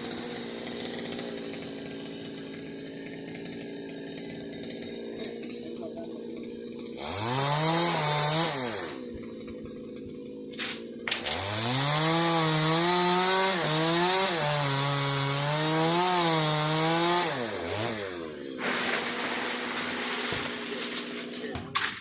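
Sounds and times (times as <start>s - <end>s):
chainsaw engine revving and cutting: 0.0s - 21.7s.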